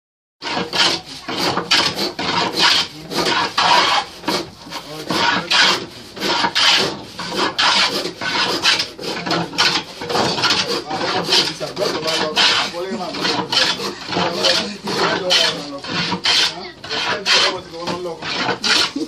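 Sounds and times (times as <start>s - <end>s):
hand plane shaving wood: 0.4s - 19.0s.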